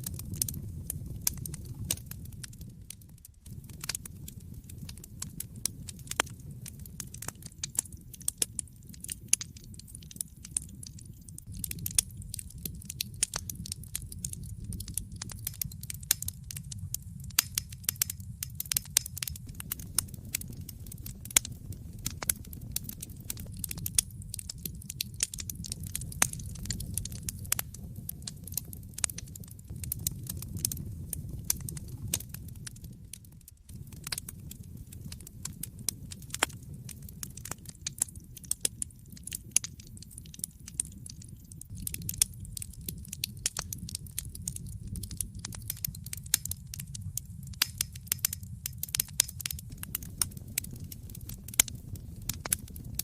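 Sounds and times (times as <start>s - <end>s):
fire crackling: 0.0s - 53.0s
low rumble of flames: 0.0s - 53.0s.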